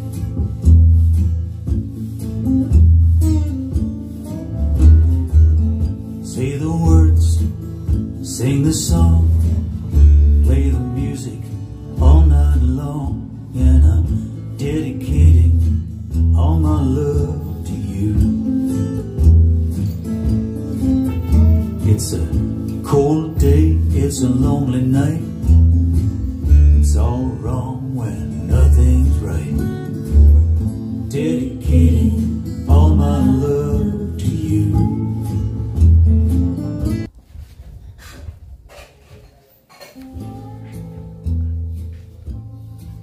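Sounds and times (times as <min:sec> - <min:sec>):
song with guitar and bass: 0:00.0 - 0:38.6, 0:39.8 - 0:43.0.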